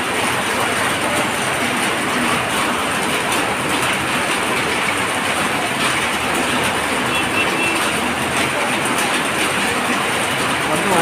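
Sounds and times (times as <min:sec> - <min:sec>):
heavy rain on a flooded street: 0:00.0 - 0:11.0.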